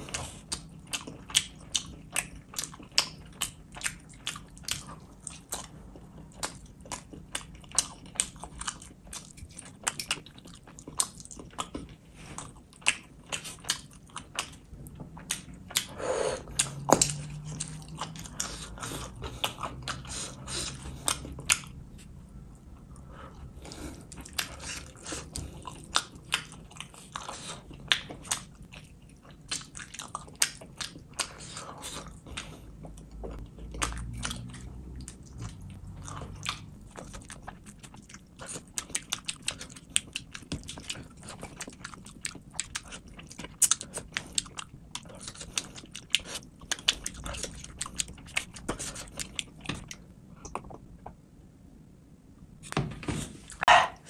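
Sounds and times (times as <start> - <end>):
close chewing mouth smacks: 0.0 - 22.1, 24.0 - 50.8.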